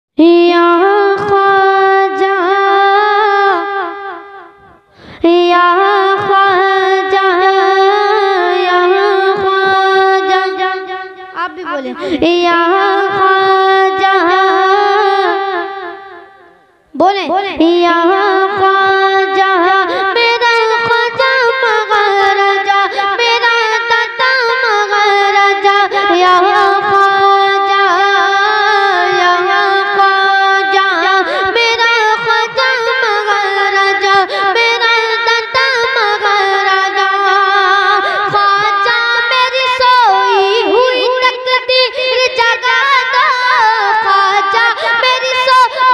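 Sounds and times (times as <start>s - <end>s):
boy singing into microphone: 0.1s - 45.9s.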